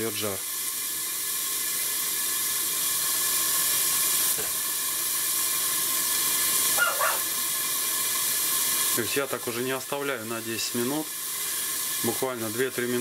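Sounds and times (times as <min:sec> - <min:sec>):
steaks sizzling in a roaster: 0:00.0 - 0:13.0.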